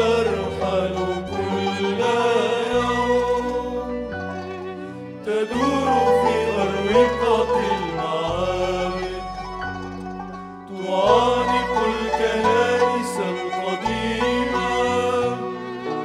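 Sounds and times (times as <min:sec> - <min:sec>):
men singing a hymn: 0:00.0 - 0:09.9, 0:10.7 - 0:16.0
instrumental backing: 0:00.0 - 0:16.0.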